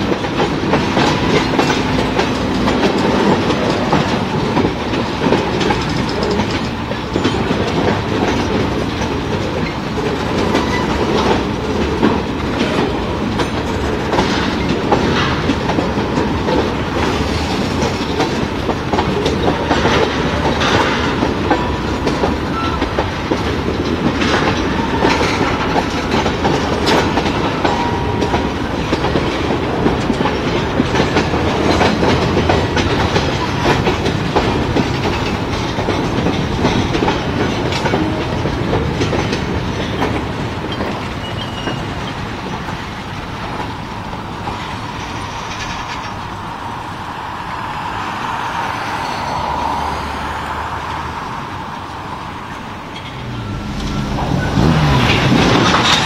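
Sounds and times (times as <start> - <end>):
freight train rumbling: 0.0 - 56.0
train wheels clicking over rail joints: 0.0 - 56.0.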